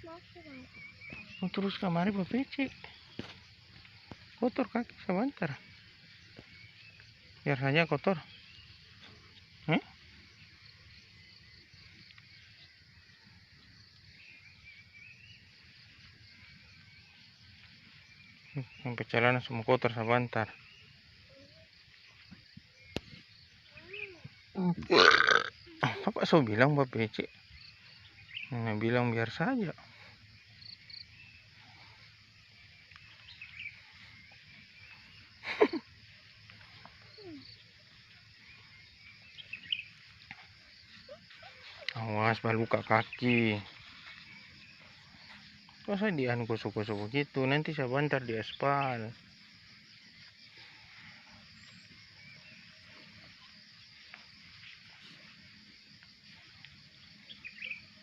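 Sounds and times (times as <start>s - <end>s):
insects hissing: 0.0s - 58.0s.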